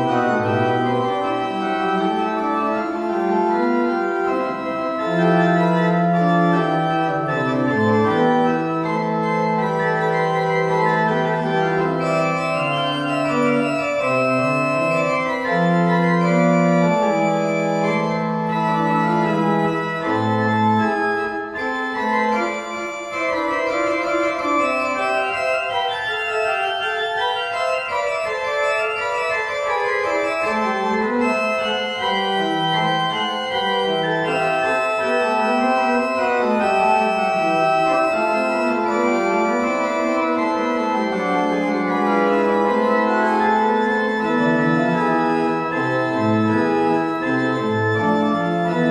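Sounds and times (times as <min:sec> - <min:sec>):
pipe organ playing chords: 0:00.0 - 0:48.9.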